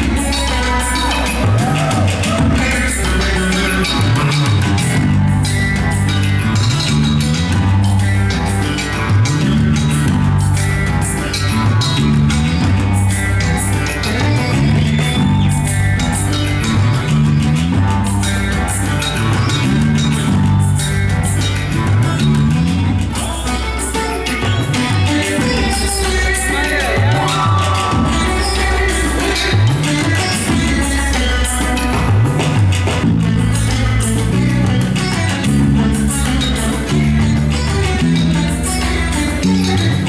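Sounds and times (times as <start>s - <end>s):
bass guitar riff: 0.0s - 40.0s
guitar: 0.0s - 40.0s
percussion hits: 0.0s - 40.0s.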